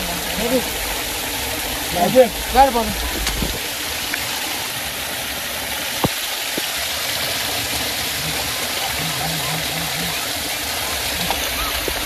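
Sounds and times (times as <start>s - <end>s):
water streaming and splashing: 0.0s - 12.0s.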